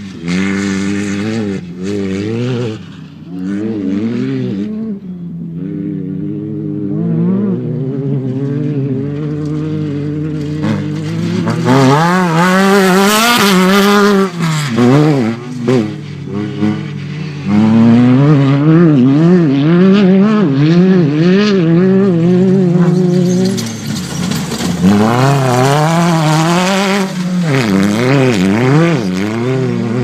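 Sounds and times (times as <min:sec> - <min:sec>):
race vehicle engines revving: 0:00.0 - 0:30.0.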